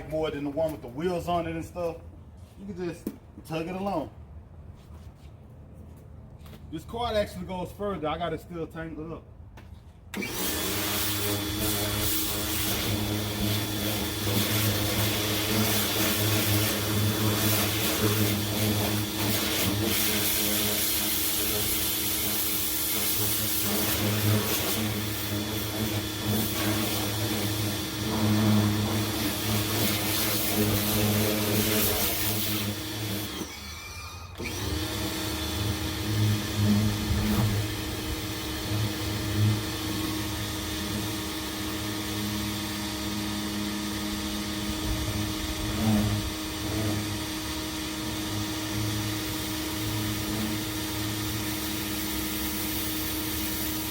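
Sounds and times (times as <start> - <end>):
pressure washer motor humming: 10.1 - 53.9.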